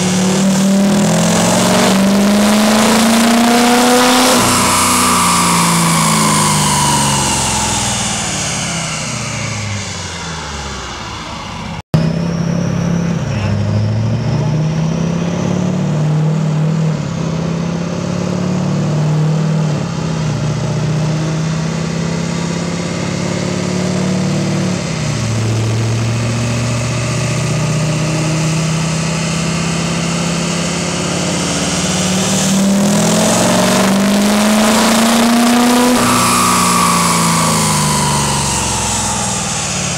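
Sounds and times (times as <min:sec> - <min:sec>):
diesel engine and rollers winding down: 0:00.0 - 0:39.9
diesel engine revving: 0:00.0 - 0:39.9.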